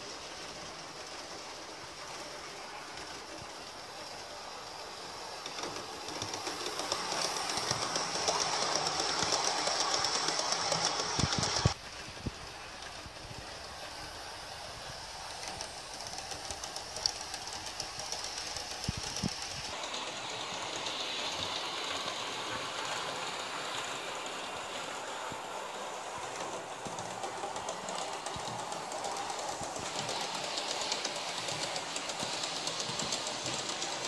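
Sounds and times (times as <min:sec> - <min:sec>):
model train motor whir: 0:00.0 - 0:34.0
wheels clicking over rail joints: 0:00.2 - 0:34.0.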